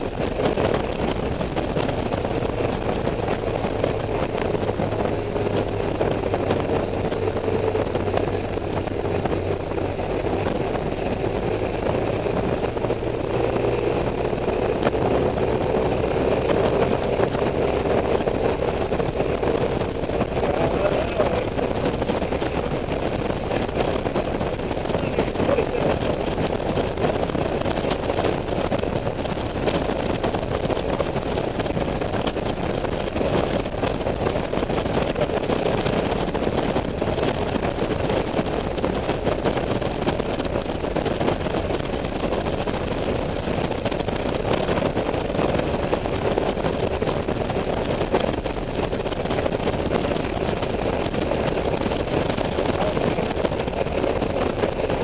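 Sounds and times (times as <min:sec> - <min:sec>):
scooter engine drone: 0:00.0 - 0:55.0
wind and road noise: 0:00.0 - 0:55.0.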